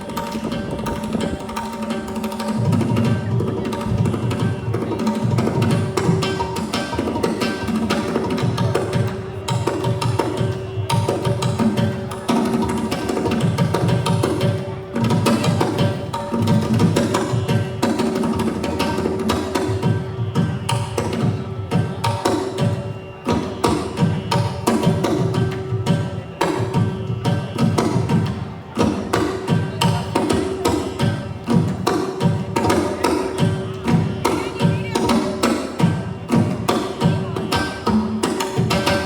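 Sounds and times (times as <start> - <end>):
fast hand-drum percussion: 0.0 - 39.0.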